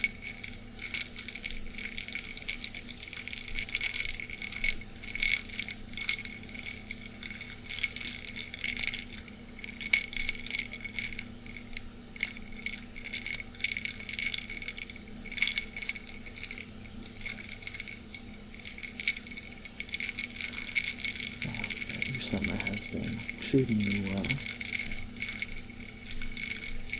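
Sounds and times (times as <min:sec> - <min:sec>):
air conditioner hum: 0:00.0 - 0:26.9
ice cubes clinking in glass: 0:00.0 - 0:26.9.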